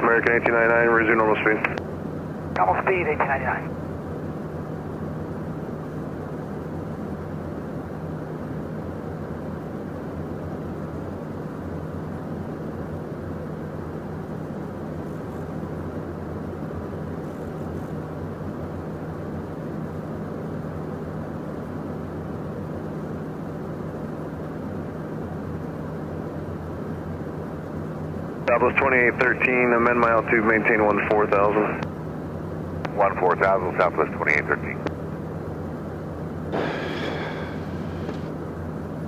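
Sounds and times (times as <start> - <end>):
constant low hum: 0.0 - 39.0
jet cockpit engine noise: 0.0 - 39.0.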